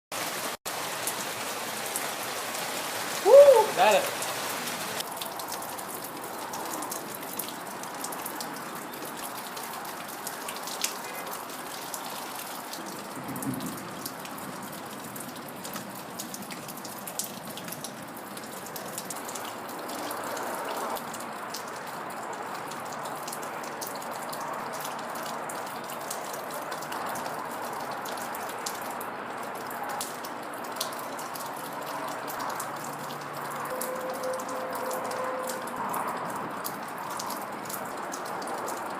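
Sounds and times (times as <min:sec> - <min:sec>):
steady rain falling: 0:00.1 - 0:38.9
raindrops clicking close by: 0:00.2 - 0:38.9.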